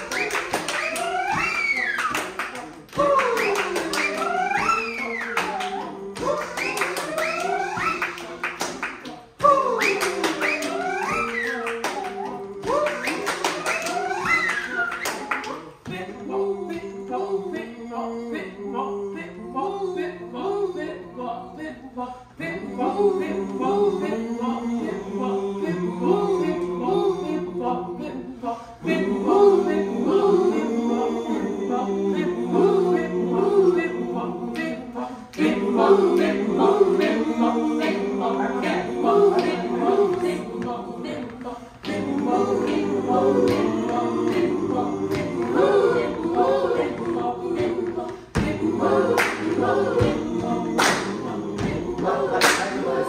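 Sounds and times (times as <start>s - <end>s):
group singing a cappella: 0.0s - 53.0s.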